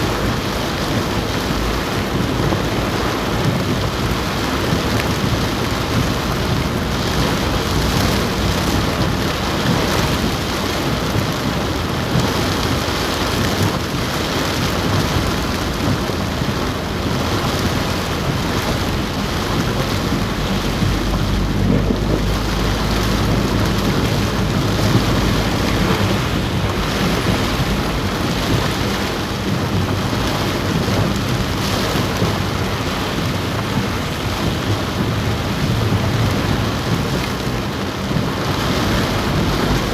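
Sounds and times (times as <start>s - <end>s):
deep low rumble: 0.0s - 39.9s
heavy rain drumming on car roof: 0.0s - 39.9s.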